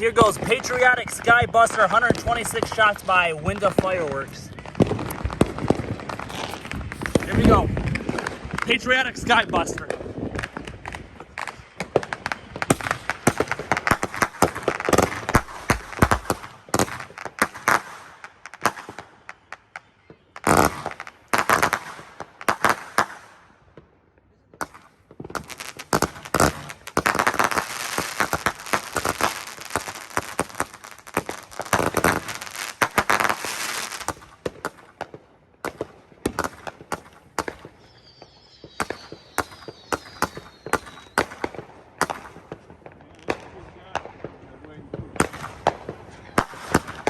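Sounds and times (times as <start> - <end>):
fireworks bangs: 0.0 - 23.9, 24.5 - 47.0.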